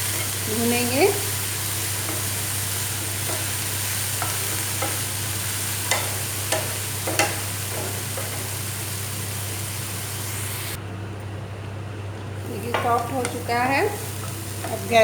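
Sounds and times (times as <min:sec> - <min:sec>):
vegetables sizzling in frying pan: 0:00.0 - 0:10.8, 0:12.4 - 0:15.0.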